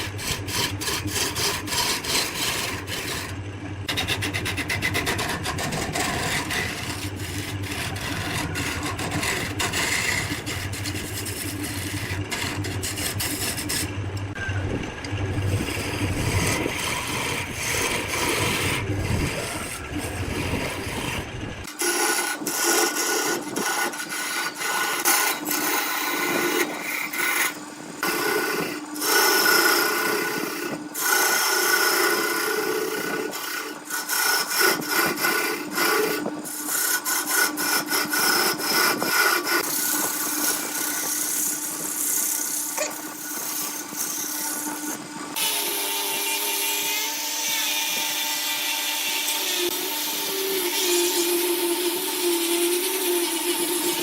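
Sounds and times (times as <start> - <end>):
lathe motor hum: 0.0 - 54.0
tool scraping spinning wood: 0.0 - 54.0.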